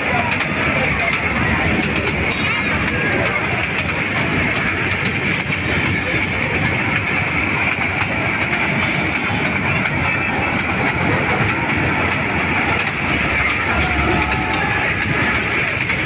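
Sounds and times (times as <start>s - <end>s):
toy train running hum: 0.0s - 16.0s
wheels clicking on rails: 0.0s - 16.0s.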